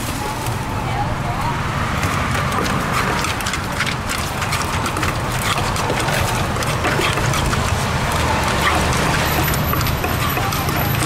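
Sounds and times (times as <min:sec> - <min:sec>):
spoon scraping in mortar: 0:02.0 - 0:11.0
wooden pestle pounding in mortar: 0:02.0 - 0:11.0.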